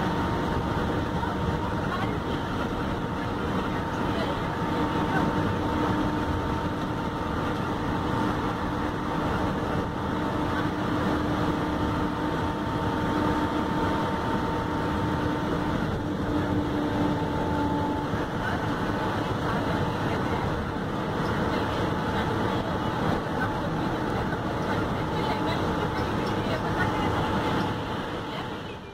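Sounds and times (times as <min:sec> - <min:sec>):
bus engine drone: 0:00.0 - 0:28.9
road noise: 0:00.0 - 0:28.9.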